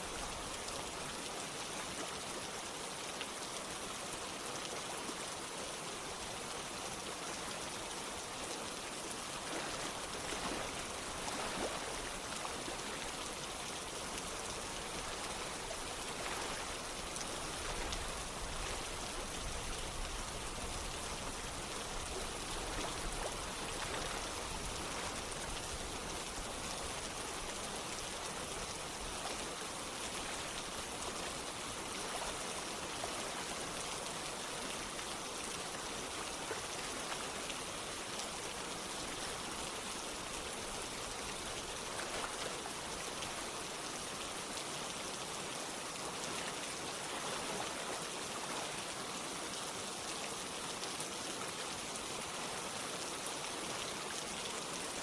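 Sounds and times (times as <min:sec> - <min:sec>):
rain falling: 0:00.0 - 0:55.0
running water: 0:00.0 - 0:55.0.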